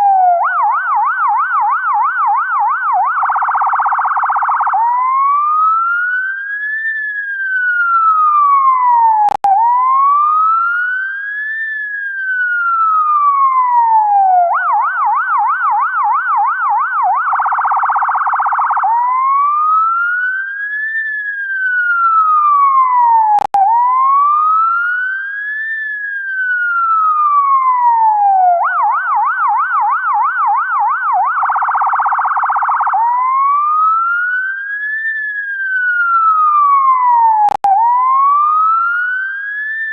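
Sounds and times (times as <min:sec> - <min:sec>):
ambulance siren wailing and yelping: 0:00.0 - 0:39.9.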